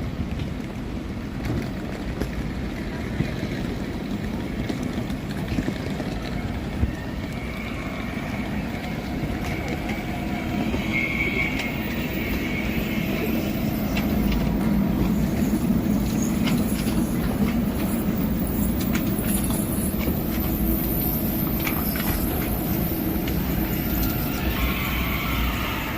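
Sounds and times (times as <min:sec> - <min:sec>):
public transport vehicle rumble: 0:00.0 - 0:25.9.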